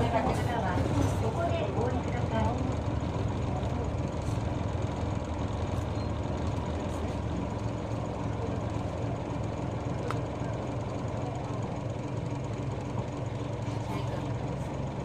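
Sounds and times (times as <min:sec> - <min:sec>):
bus diesel engine humming: 0:00.0 - 0:15.0.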